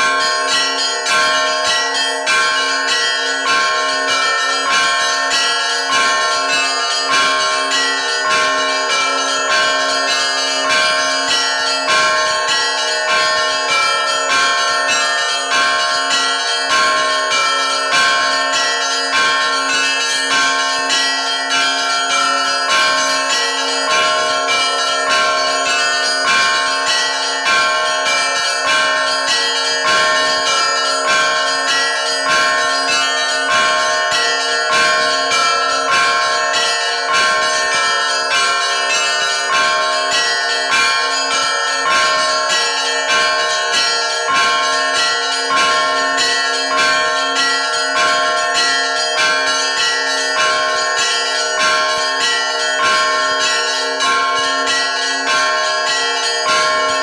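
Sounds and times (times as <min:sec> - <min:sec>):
church bells ringing: 0:00.0 - 0:57.0.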